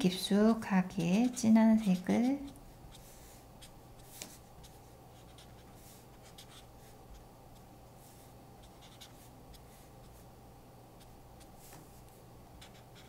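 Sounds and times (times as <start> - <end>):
marker strokes on paper: 0.5 - 10.3, 11.0 - 13.0.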